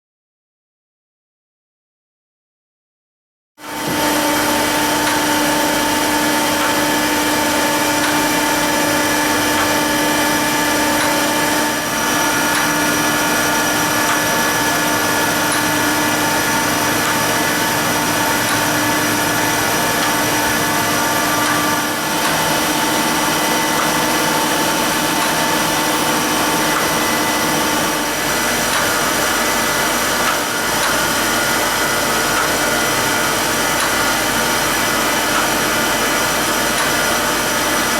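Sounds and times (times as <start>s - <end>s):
surface grinder whine: 3.6s - 37.9s.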